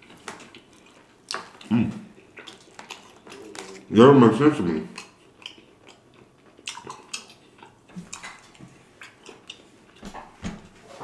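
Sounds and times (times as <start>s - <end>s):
person chewing food: 0.0s - 3.9s, 4.9s - 11.0s.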